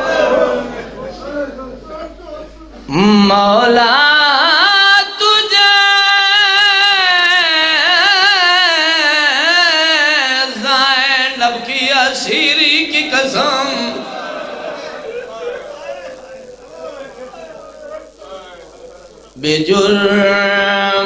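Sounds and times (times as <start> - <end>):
man chanting a lament: 0.1 - 21.0.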